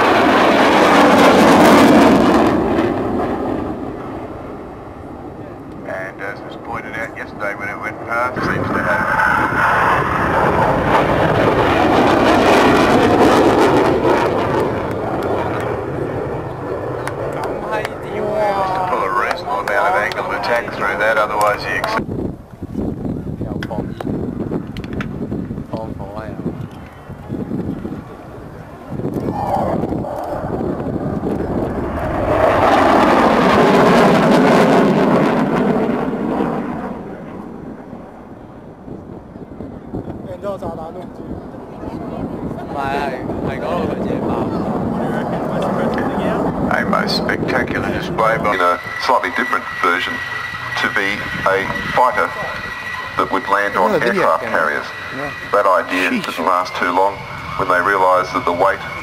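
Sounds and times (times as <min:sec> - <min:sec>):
jet afterburner roar: 0:00.0 - 0:59.0.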